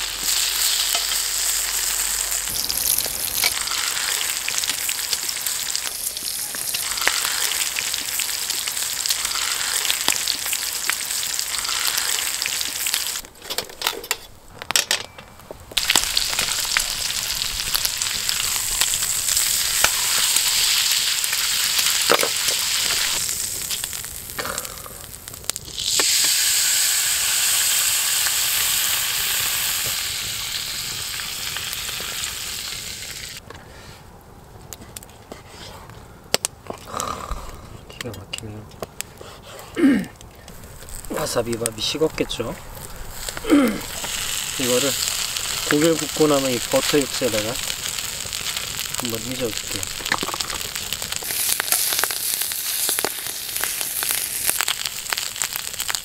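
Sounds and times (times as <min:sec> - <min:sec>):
steak sizzling in a pan: 0:00.0 - 0:13.2, 0:15.8 - 0:33.4, 0:40.5 - 0:56.0.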